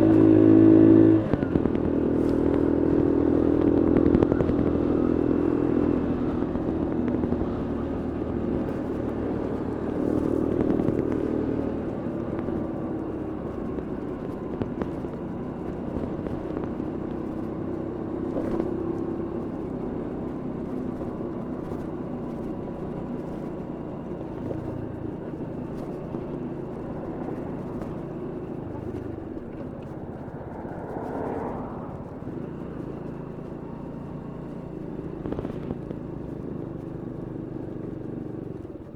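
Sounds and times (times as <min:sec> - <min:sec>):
small motorbike engine running: 0:00.0 - 0:38.9.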